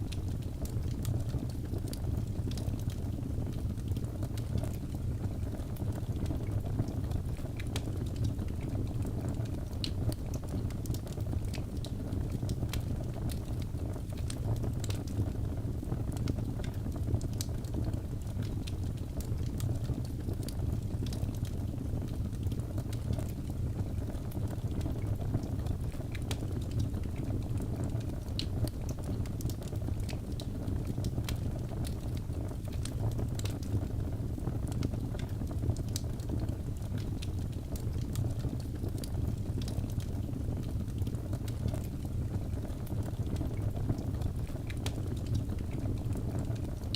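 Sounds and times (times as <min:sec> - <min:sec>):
fire crackles and pops: 0:00.0 - 0:46.9
fire flames rumbling: 0:00.0 - 0:46.9.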